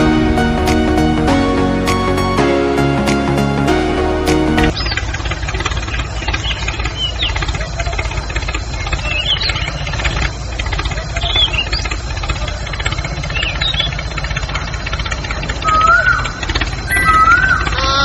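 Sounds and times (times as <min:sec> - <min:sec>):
tractor engine knocking: 0:00.0 - 0:18.0.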